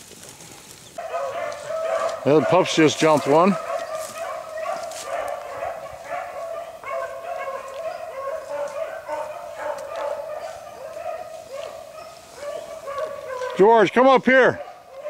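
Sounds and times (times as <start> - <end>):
hounds baying: 1.0 - 15.0.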